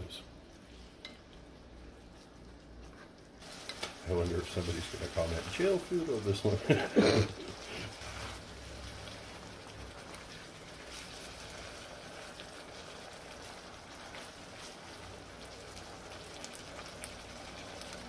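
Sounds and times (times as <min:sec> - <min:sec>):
sauce bubbling in frying pan: 0:00.4 - 0:18.0.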